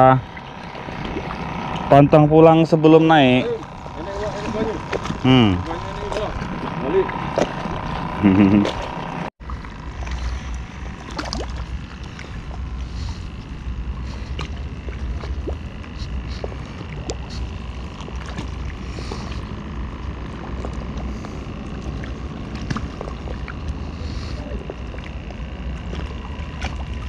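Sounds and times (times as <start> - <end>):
small waves lapping: 0.0 - 27.0.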